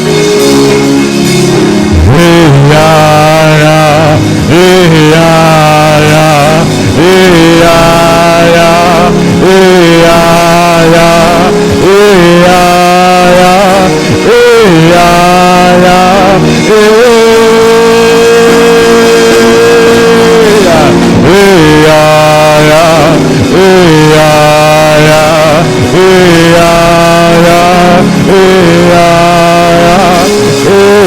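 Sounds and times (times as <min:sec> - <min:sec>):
slow worship music: 0:00.0 - 0:31.0.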